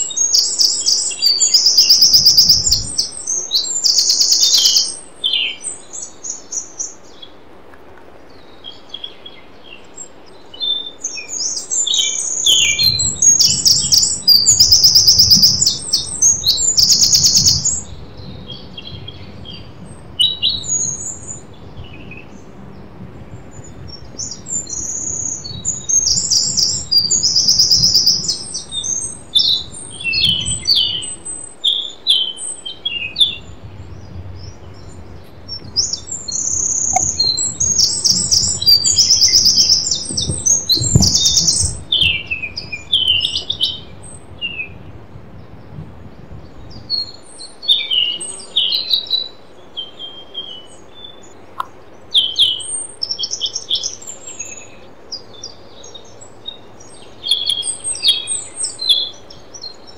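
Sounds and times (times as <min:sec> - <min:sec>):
songbirds trilling and chirping: 0:00.0 - 0:59.9.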